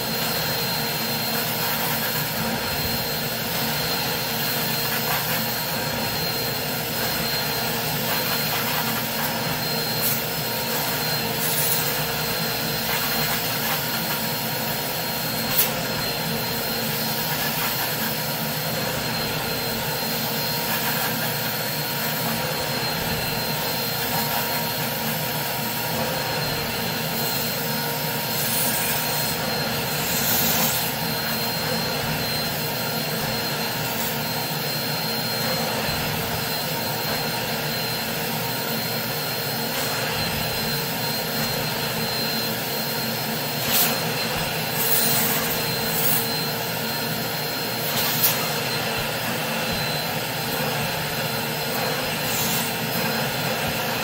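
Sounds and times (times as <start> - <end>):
carpet cleaner suction whine: 0.0 - 54.0.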